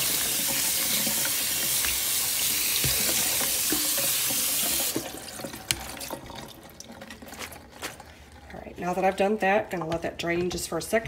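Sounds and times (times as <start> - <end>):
faucet water splashing: 0.0 - 9.4.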